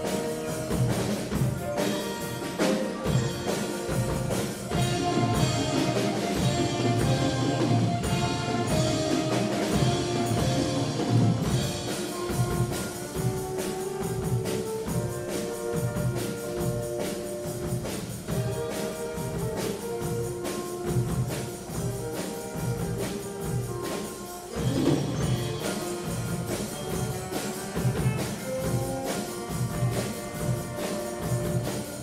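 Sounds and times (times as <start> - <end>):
drum kit beat: 0.0 - 32.0
wind band playing: 0.0 - 32.0.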